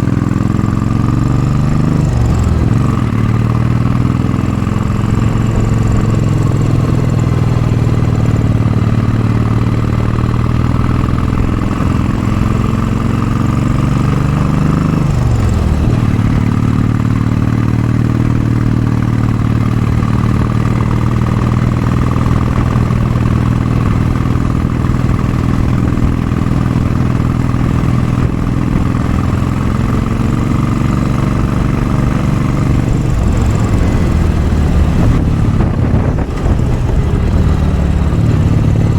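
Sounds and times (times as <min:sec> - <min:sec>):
motorcycle engine under load: 0:00.0 - 0:38.9.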